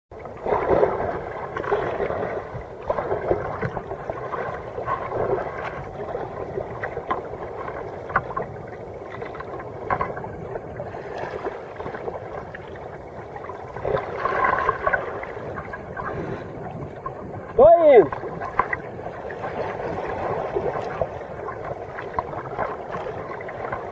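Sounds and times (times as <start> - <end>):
water splashing against kayak: 0.1 - 23.9.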